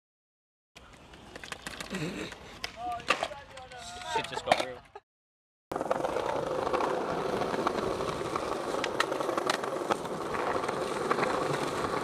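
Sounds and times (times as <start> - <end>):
skateboard wheels rolling on paving: 0.8 - 4.6, 5.7 - 12.0.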